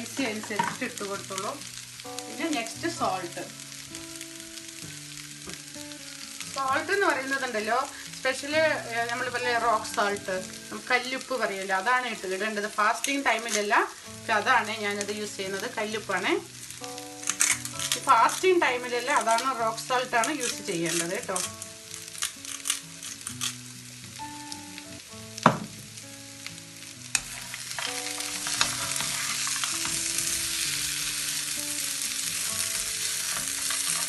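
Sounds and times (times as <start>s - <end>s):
background music with melody: 0.0s - 34.0s
potatoes sizzling in a pan: 0.0s - 34.0s.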